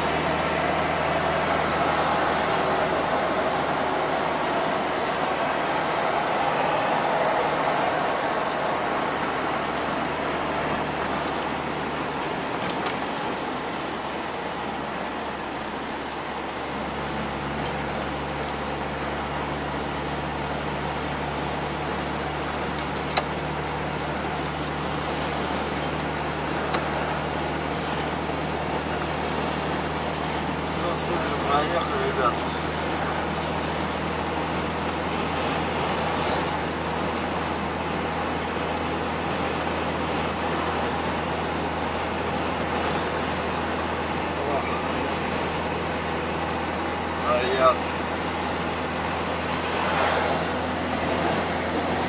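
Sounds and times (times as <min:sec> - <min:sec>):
tyre and road noise: 0:00.0 - 0:52.0
van engine hum: 0:00.0 - 0:52.0.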